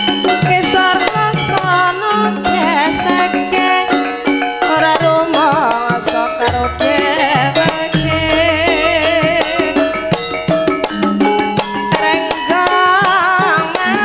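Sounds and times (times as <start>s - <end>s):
ringing gamelan tones: 0.0s - 14.0s
woman singing: 0.4s - 10.2s, 11.8s - 14.0s.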